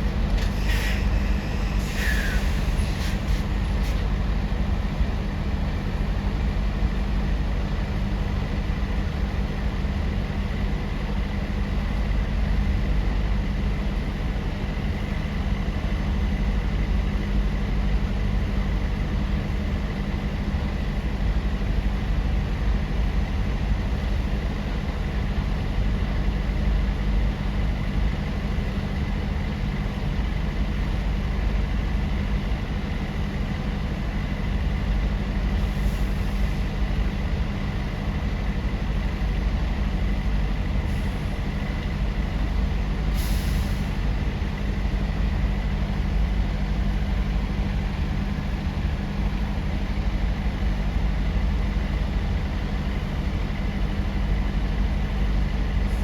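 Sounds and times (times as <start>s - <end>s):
heavy machinery engine drone: 0.0s - 56.0s.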